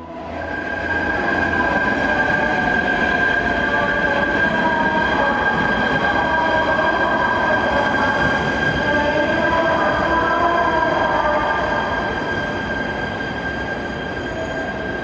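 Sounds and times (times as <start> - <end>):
train high-pitched squeal: 0.2 - 15.0.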